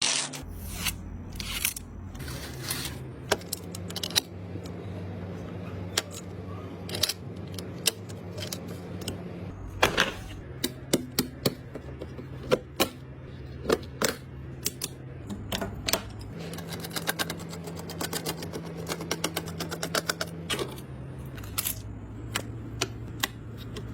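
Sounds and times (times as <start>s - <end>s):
low steady hum: 0.4s - 23.9s.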